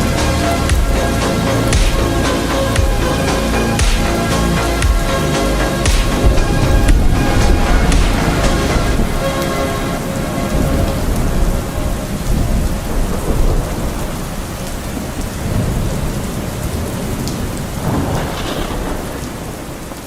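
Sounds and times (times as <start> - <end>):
heavy rainfall: 0.0 - 20.0
thunder rumbles: 0.0 - 20.0.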